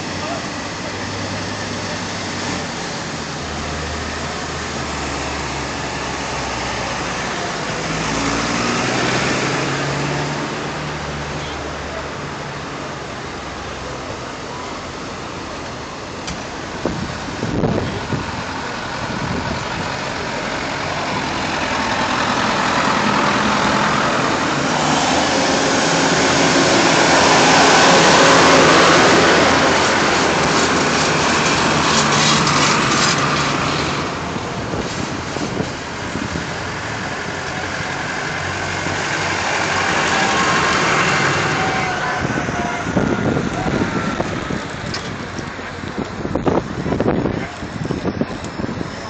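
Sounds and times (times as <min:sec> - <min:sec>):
another tractor approaching: 0:00.0 - 0:49.0
tractor engine passing by: 0:00.0 - 0:49.0.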